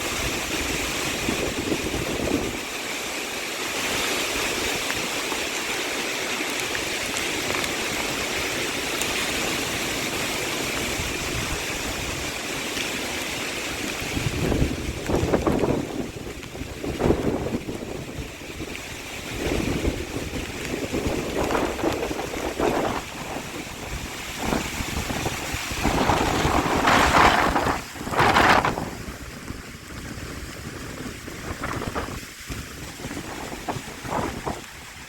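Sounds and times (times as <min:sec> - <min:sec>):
wind gusts buffeting microphone: 0:00.0 - 0:02.7, 0:06.9 - 0:12.4, 0:13.6 - 0:35.0.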